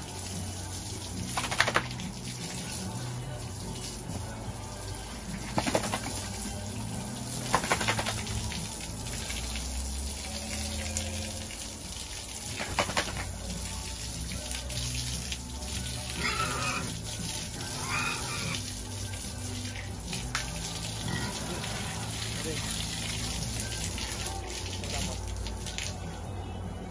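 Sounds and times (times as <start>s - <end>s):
hose water spraying: 0.0s - 26.0s.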